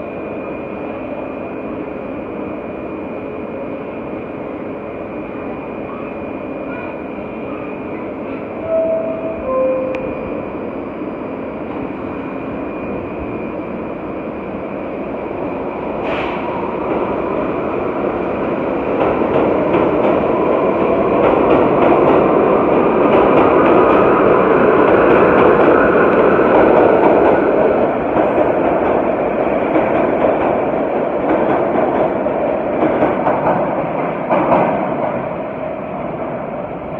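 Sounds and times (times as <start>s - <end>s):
subway train rumbling: 0.0s - 36.9s.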